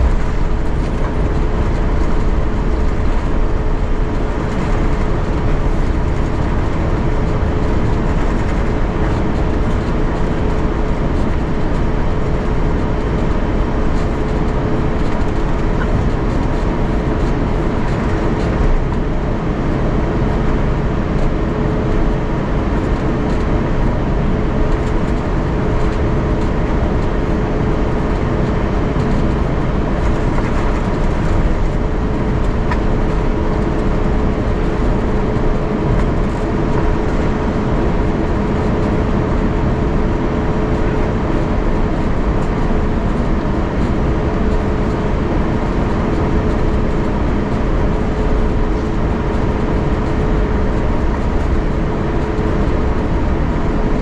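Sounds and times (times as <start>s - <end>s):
jet engines idling hum: 0.0s - 54.0s
low airframe rumble: 0.0s - 54.0s.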